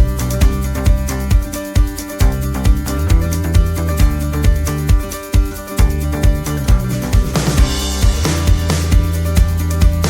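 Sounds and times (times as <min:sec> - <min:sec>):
upbeat guitar music: 0:00.0 - 0:10.0.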